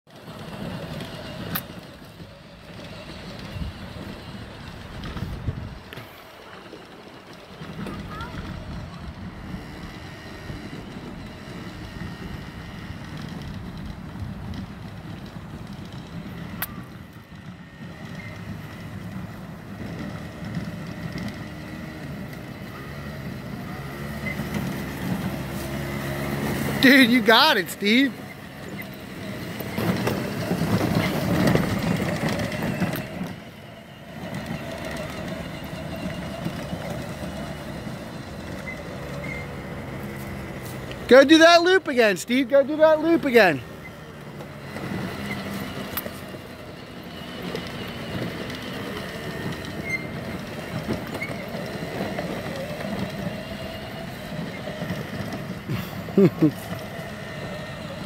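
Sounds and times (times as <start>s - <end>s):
quad engine rumbling: 0.1s - 58.0s.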